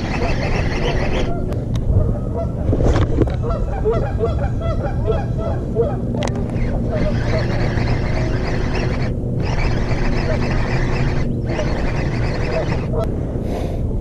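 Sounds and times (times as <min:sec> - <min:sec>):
geese honking: 0:00.0 - 0:02.6, 0:03.2 - 0:13.1
steady low rumble: 0:00.0 - 0:14.0.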